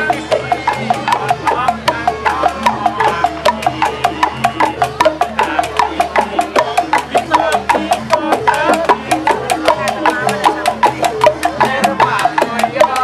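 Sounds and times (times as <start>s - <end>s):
pitched melody: 0.0s - 13.0s.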